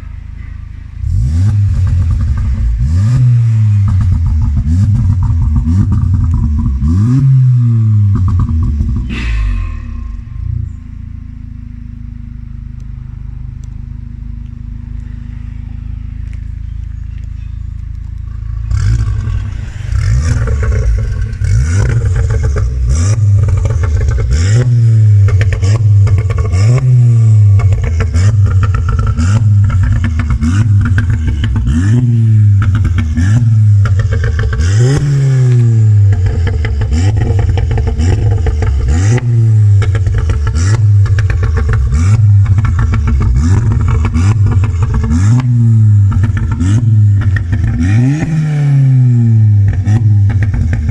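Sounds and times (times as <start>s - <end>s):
car engine revving: 0.0s - 50.9s
exhaust pops and crackles: 1.0s - 50.9s.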